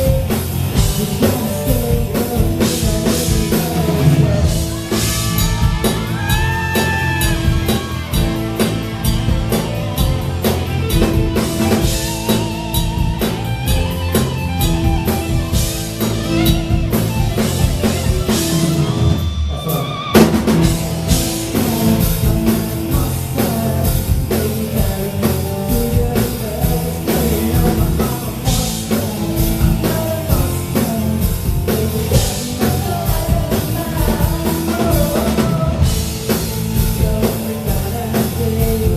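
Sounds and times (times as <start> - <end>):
person singing: 0.0 - 8.7, 10.9 - 38.9
drum kit: 0.0 - 38.9
guitar: 0.0 - 38.9
live pop-rock music: 0.0 - 38.9.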